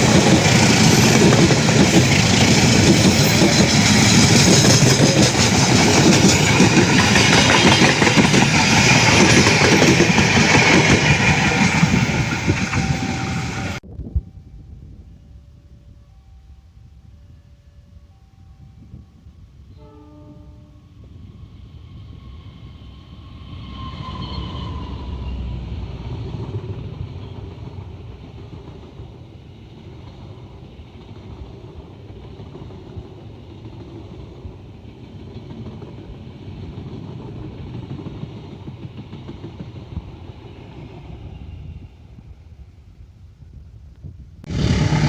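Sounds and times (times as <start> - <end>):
carriages rumbling on rails: 0.0 - 14.7, 20.1 - 42.8, 44.4 - 45.0
train passing at speed: 0.0 - 45.0.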